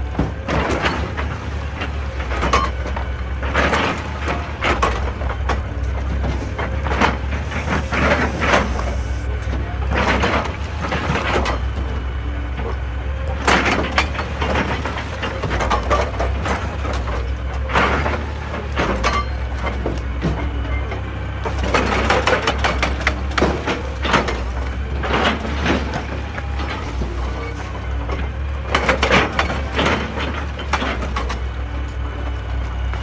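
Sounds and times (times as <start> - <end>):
excavator diesel engine: 0.0 - 33.0.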